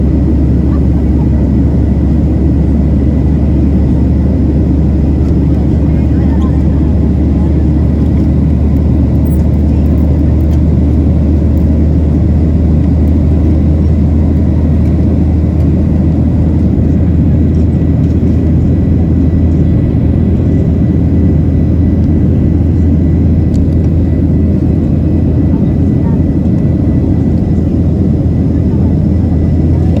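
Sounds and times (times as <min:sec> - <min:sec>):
jet engine and airflow rumble: 0:00.0 - 0:30.0.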